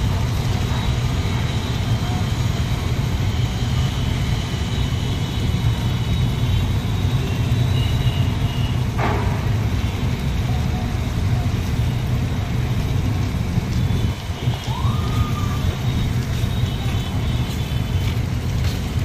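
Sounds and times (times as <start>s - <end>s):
train rumbling over steel bridge: 0.0s - 19.0s.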